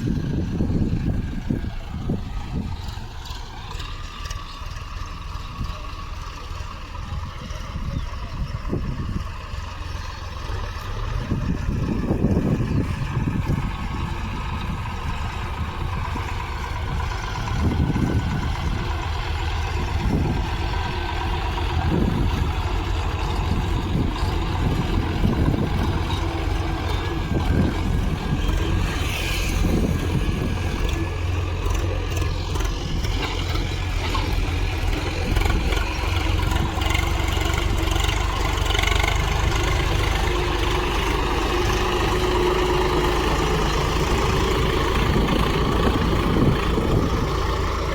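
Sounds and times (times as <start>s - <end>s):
tractor engine droning: 0.0s - 47.9s.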